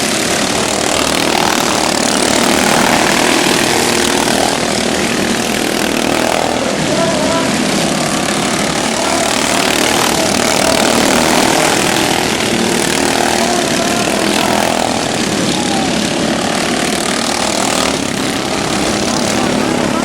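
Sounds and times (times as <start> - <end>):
racing lawn mower engines revving: 0.0 - 20.0.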